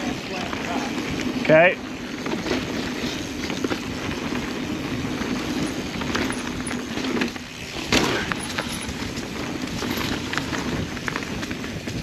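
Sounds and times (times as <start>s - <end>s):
bike clicks and rattles: 0.0s - 12.0s
tyre and wind rushing: 0.0s - 12.0s.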